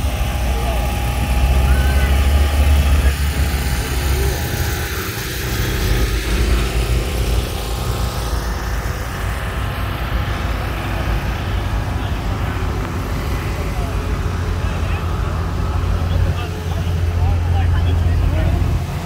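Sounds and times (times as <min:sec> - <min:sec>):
car engines rumbling: 0:00.0 - 0:19.0.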